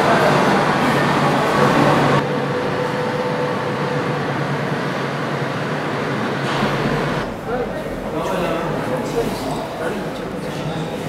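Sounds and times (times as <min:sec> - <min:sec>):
steady loud rumble: 0:00.0 - 0:11.0.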